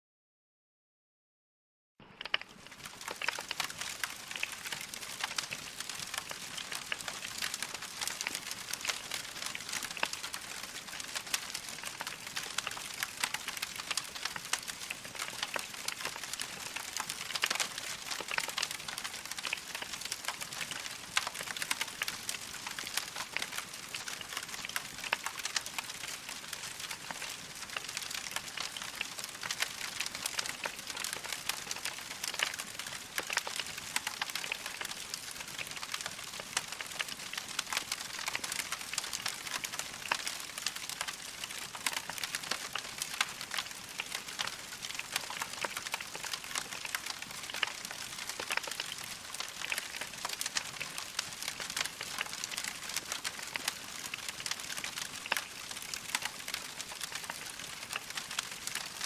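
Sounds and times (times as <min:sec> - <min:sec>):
wood fire crackling: 0:02.1 - 0:59.0.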